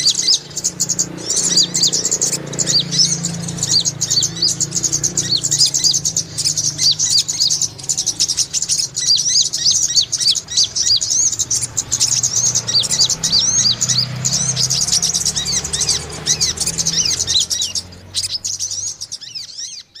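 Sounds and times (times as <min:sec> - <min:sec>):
birds chirping rapidly: 0:00.0 - 0:20.0.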